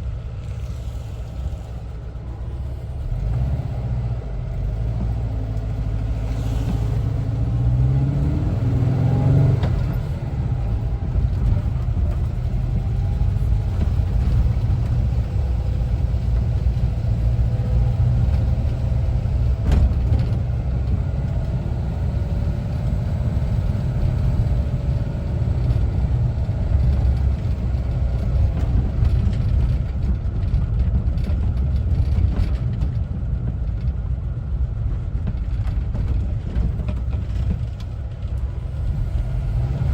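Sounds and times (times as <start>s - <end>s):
camper van engine driving: 0.0s - 39.9s.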